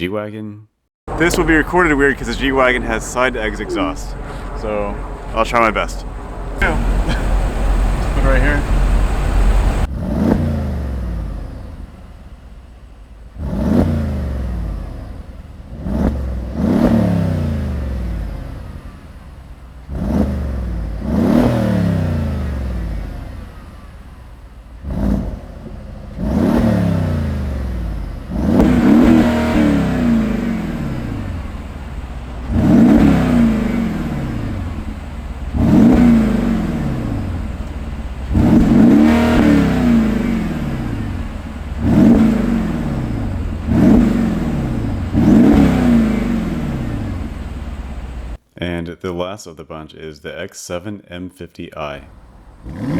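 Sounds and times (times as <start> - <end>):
car engine revving: 1.1 - 48.4, 52.0 - 52.9.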